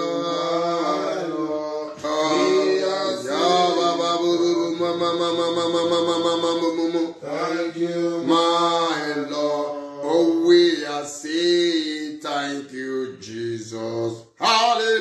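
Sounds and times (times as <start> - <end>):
man singing a slow chant: 0.0 - 15.0.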